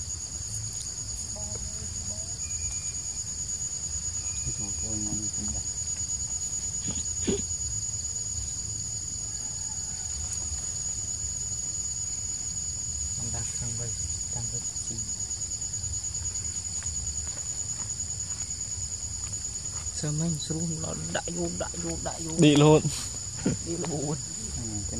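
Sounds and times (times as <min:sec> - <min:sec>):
insects shrilling: 0:00.0 - 0:24.9.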